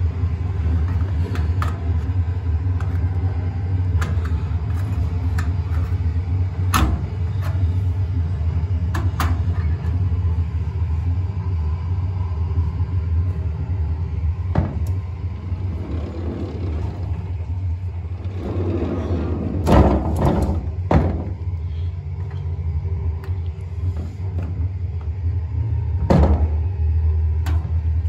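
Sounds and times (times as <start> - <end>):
low rumble inside train carriage: 0.0 - 28.0.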